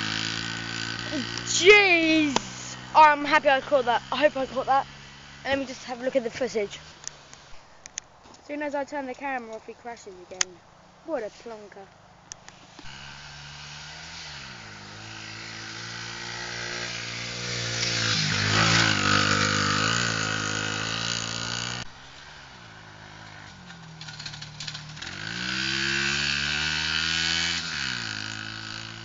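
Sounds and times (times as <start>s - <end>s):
pit bike engine revving: 0.0s - 7.5s, 12.6s - 29.0s.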